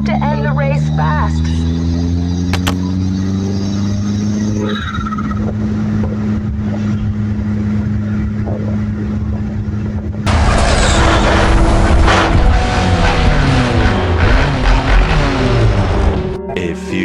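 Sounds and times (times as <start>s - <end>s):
car engine running: 0.0s - 16.5s
road noise: 0.0s - 16.8s.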